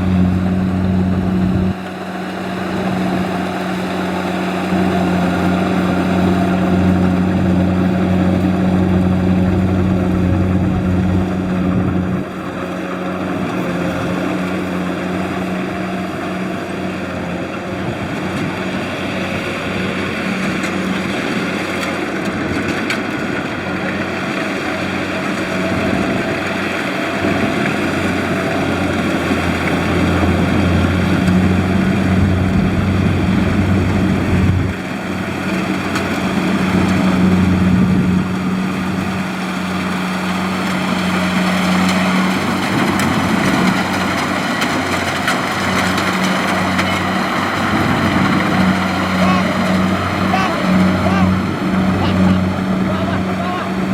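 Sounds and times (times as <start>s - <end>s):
combine harvester engine running: 0.0s - 53.9s.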